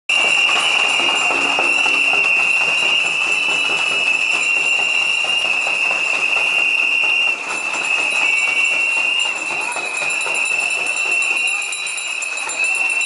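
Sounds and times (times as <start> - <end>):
rattling noisemakers: 0.1 - 13.0
whistles blowing shrilly: 0.1 - 13.0.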